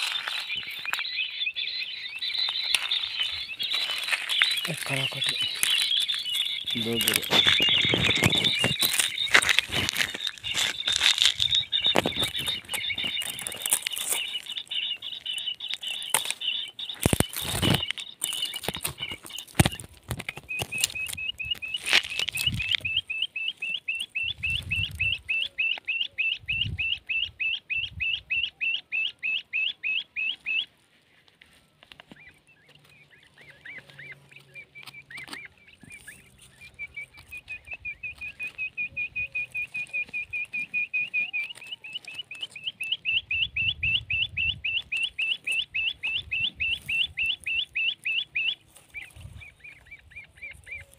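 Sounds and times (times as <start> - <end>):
electronic quail calls: 0.0 - 30.8, 32.1 - 50.9.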